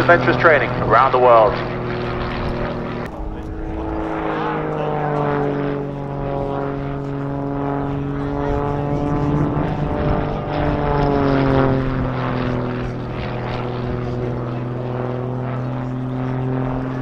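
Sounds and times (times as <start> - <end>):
aircraft piston engine and propeller: 0.0 - 17.0.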